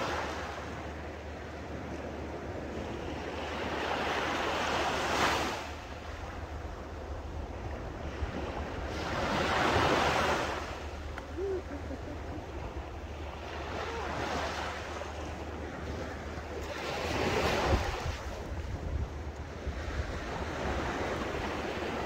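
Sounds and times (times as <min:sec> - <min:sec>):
small waves washing on beach: 0:00.0 - 0:22.0.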